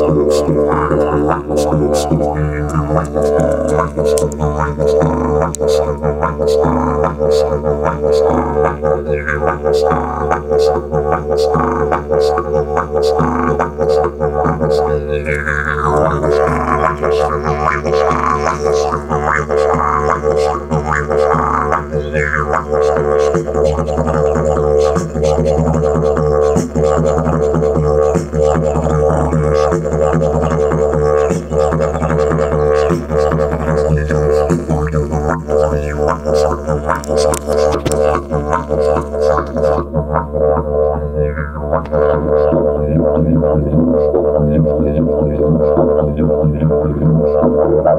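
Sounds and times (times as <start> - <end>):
didgeridoo drone: 0.0 - 47.9.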